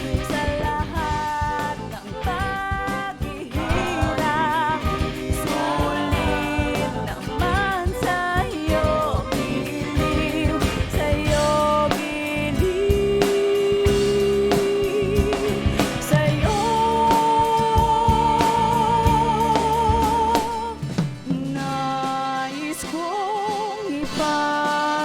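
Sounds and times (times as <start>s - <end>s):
pop love song with band: 0.0s - 25.0s
singer holding long notes: 0.0s - 25.0s.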